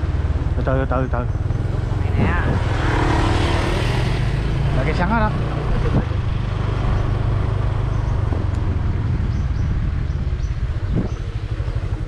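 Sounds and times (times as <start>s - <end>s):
motorbike engine running: 0.0s - 12.0s
road noise: 0.0s - 12.0s
wind noise: 1.4s - 4.7s, 5.3s - 12.0s.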